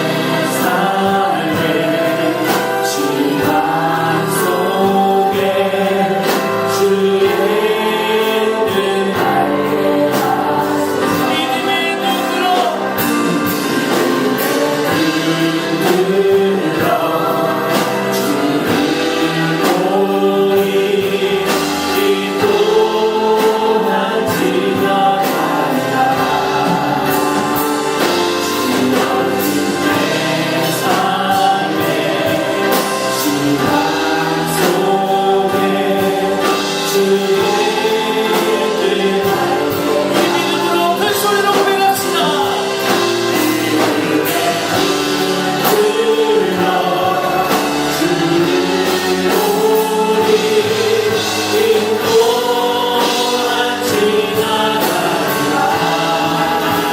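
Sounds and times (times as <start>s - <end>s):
choir singing worship song: 0.0s - 56.9s
musical accompaniment: 0.0s - 56.9s.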